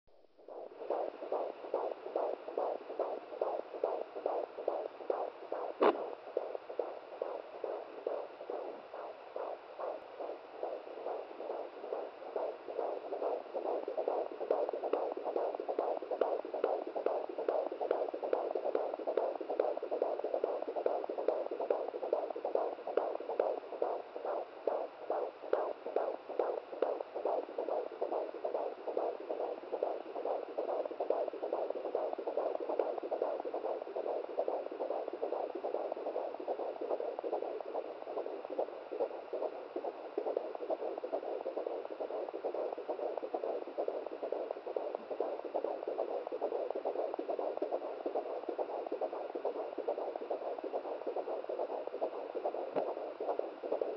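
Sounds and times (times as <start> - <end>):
fetal heartbeat on doppler speaker: 0.1 - 53.9.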